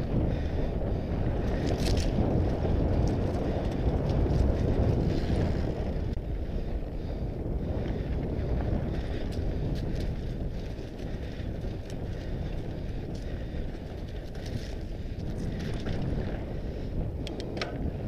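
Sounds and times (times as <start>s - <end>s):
bike tyres rolling over gravel: 0.0s - 18.0s
wind rushing over microphone: 0.0s - 18.0s.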